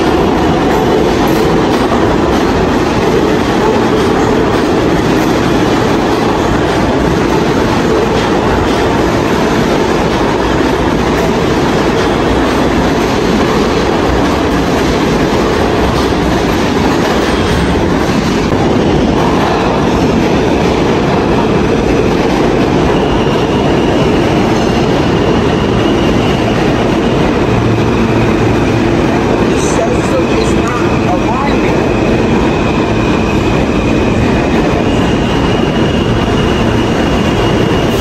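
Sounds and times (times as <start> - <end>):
subway train rumble: 0.0 - 38.0
wheels clattering on rails: 0.0 - 38.0.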